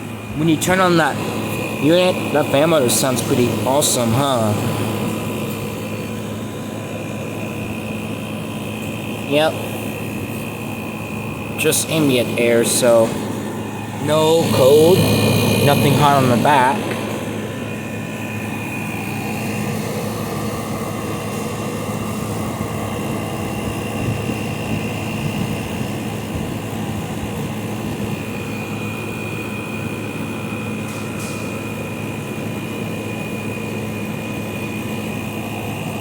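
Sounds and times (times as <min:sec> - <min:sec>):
air conditioner humming: 0:00.0 - 0:36.0
fan blowing air: 0:00.0 - 0:36.0.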